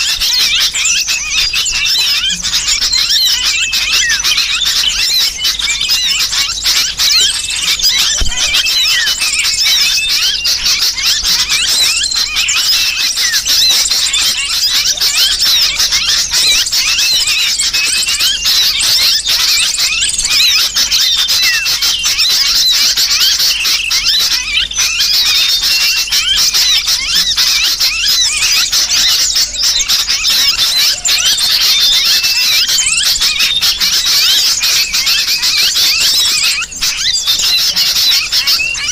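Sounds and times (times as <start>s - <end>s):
bird distress cries: 0.0s - 38.9s
small birds chattering and squealing: 0.0s - 38.9s.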